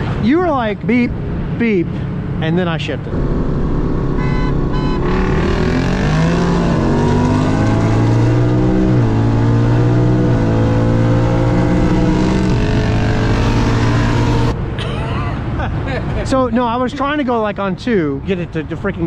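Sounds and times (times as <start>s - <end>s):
car engine at full throttle: 0.0s - 16.8s.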